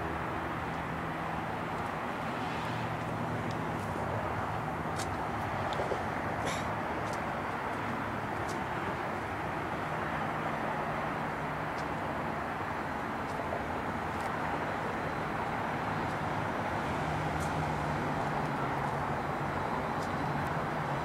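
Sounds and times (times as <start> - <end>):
distant road traffic: 0.0 - 21.0.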